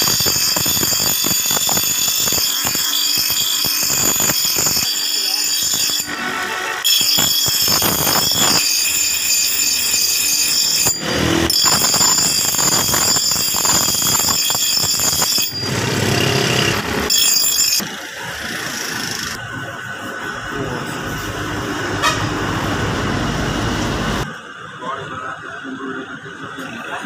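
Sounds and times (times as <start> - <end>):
grinding steel with ringing tones: 0.0 - 22.2.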